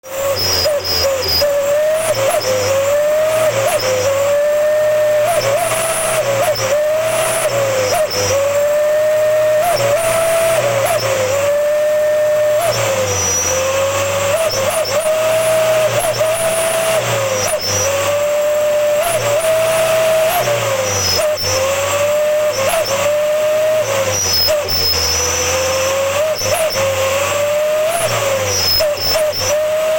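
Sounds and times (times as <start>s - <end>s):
engine revving: 0.0s - 29.9s
whistling exhaust tone: 0.0s - 29.9s.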